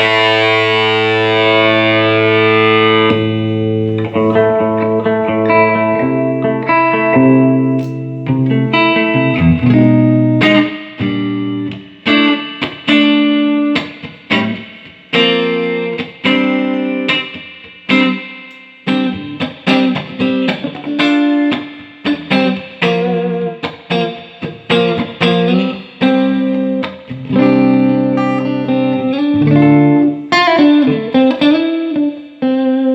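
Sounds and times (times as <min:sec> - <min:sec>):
electric guitar notes and chords: 0:00.0 - 0:32.9.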